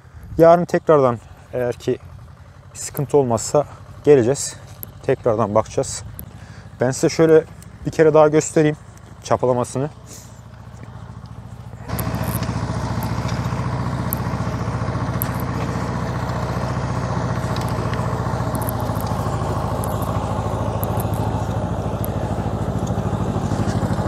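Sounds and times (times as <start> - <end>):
diesel tractor engine under load: 0.0 - 24.0.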